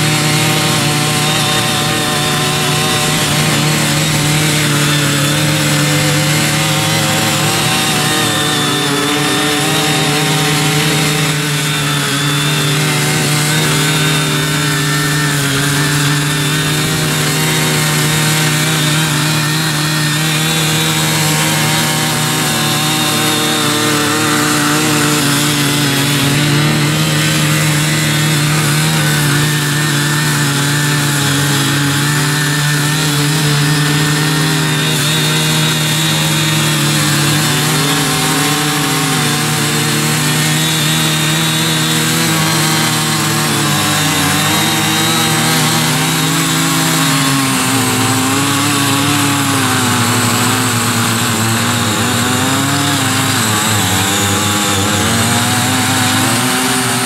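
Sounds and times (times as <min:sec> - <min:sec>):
cultivator engines running: 0:00.0 - 0:57.0
rotary tines churning soil: 0:00.0 - 0:57.0.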